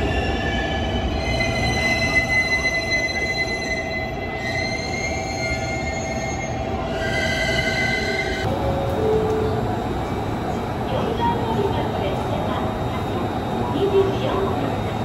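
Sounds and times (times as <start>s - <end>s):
train rumbling: 0.0s - 15.0s
steady high-pitched tones: 0.1s - 15.0s.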